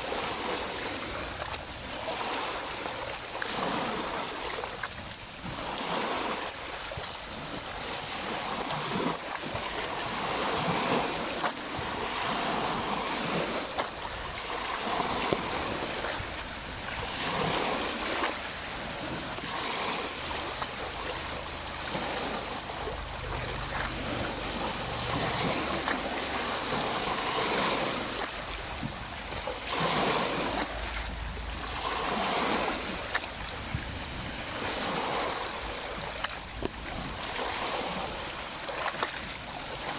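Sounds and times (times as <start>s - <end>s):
lake waves lapping: 0.0s - 39.9s
wind buffeting microphone: 0.0s - 39.9s.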